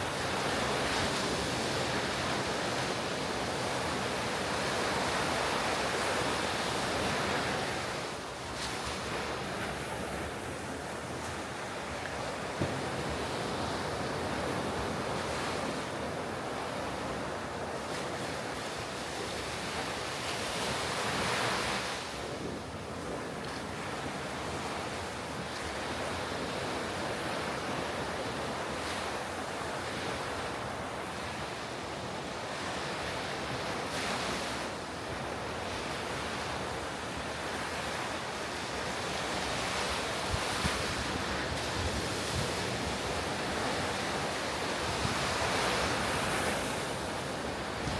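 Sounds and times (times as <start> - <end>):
ocean waves crashing on shore: 0.0 - 47.9.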